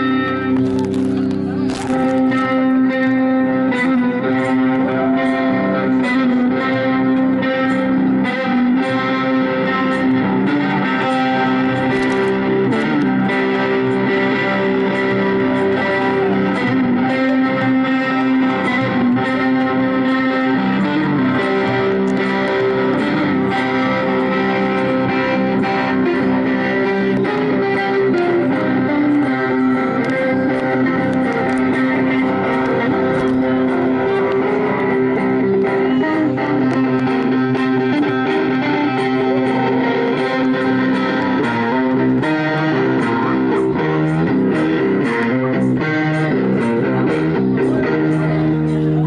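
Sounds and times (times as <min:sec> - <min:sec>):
electric guitar chords: 0:00.0 - 0:49.0.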